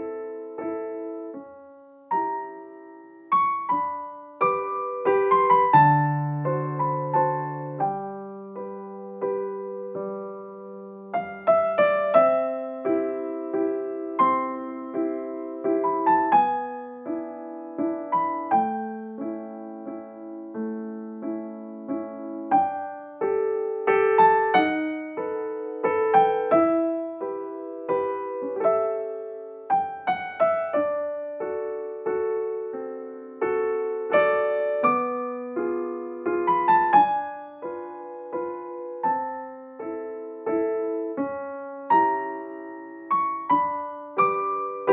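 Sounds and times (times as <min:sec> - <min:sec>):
slow piano music: 0:00.0 - 0:44.9.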